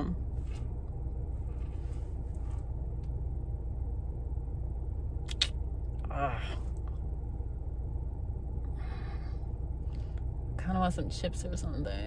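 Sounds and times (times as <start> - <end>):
car idling hum: 0.0 - 12.0.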